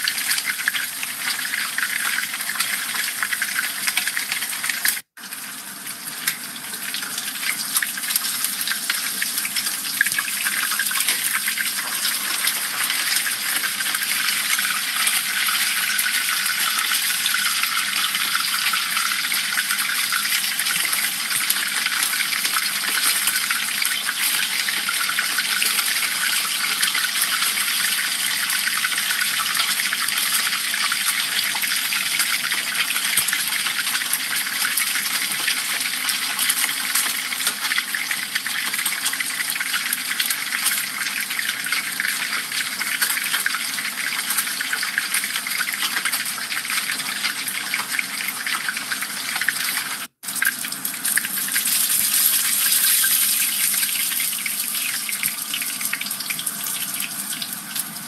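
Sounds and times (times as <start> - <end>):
hot oil sizzling and bubbling: 0.0 - 58.0.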